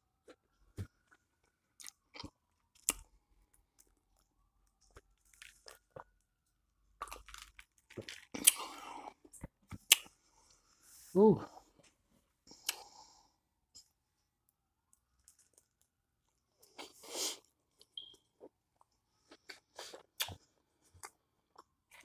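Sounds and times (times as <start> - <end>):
person chewing food: 0.2 - 10.6, 12.5 - 14.0, 14.9 - 22.0.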